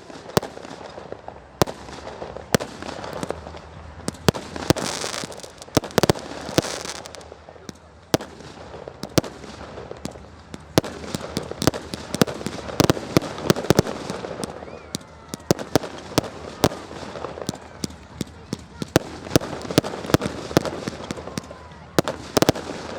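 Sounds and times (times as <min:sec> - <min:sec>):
fireworks banging and cracking: 0:00.0 - 0:22.9.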